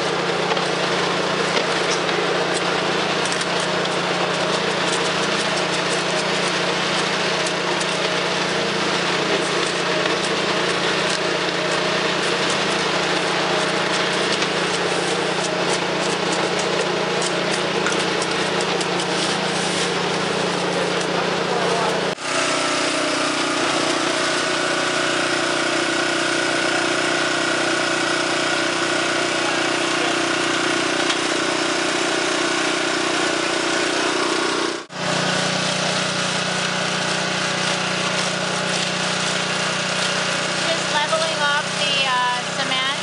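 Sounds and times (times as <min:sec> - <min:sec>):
shovels scraping wet concrete: 0:00.0 - 0:43.0
small engine running: 0:00.0 - 0:43.0.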